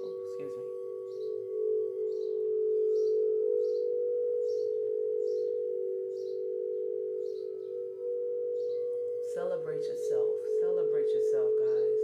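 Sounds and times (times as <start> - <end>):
bird chirping: 0.0 - 12.0
singing bowl tone: 0.0 - 12.0.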